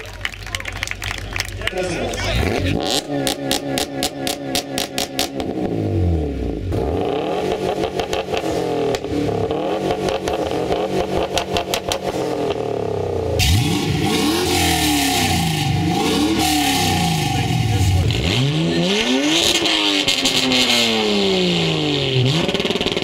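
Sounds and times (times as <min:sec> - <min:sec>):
vee eight engine revving: 0:01.6 - 0:23.0
turbocharged engine revving in blips: 0:02.1 - 0:23.0
car exhaust revving with a stutter: 0:02.2 - 0:23.0.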